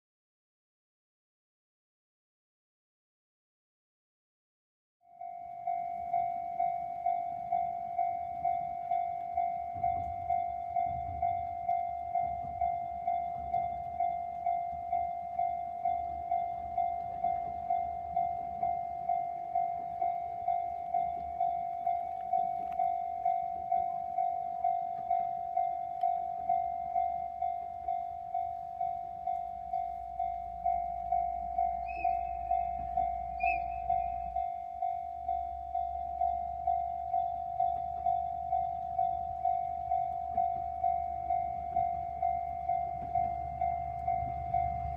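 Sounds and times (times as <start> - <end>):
level crossing alarm bell: 5.1 - 44.9
train rumble: 5.2 - 44.9.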